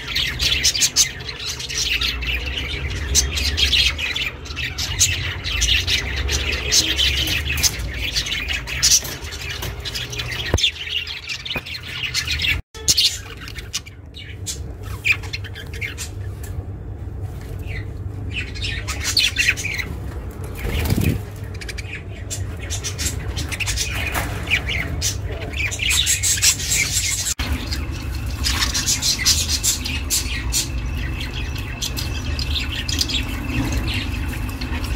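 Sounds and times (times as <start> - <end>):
budgerigars chirping and squawking: 0.0 - 34.9.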